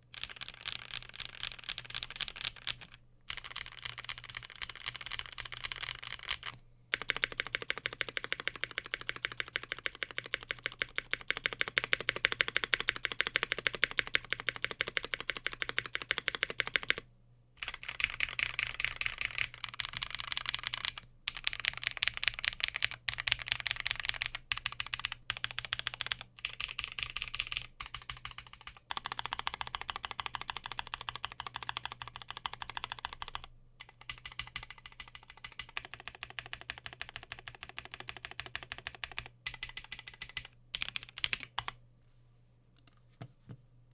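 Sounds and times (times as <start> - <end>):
mechanical keyboard typing: 0.1 - 17.0, 17.6 - 41.8.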